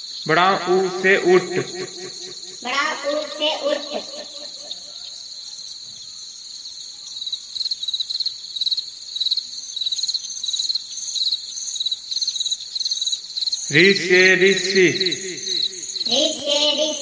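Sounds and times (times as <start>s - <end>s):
crickets trilling: 0.0s - 13.7s, 14.3s - 17.0s
pulsing cricket chirp: 0.0s - 17.0s.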